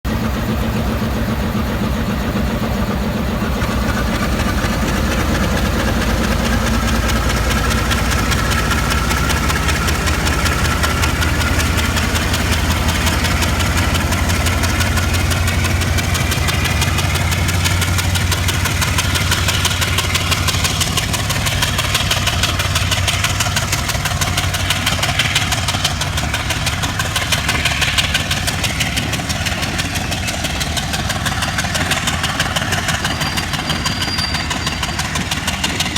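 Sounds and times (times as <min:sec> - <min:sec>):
locomotive engine throbbing: 0:00.1 - 0:35.9.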